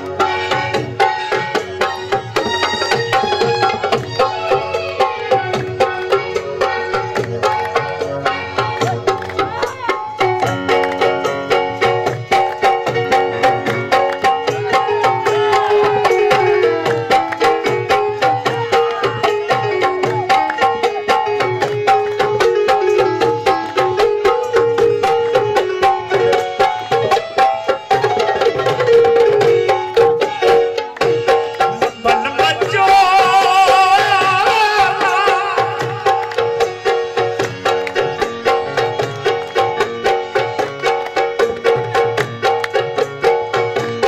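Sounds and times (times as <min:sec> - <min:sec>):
hand drum beating: 0:00.0 - 0:44.0.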